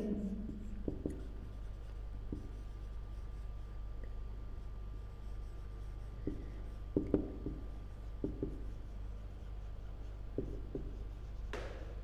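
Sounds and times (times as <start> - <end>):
marker writing on whiteboard: 0.0 - 12.0.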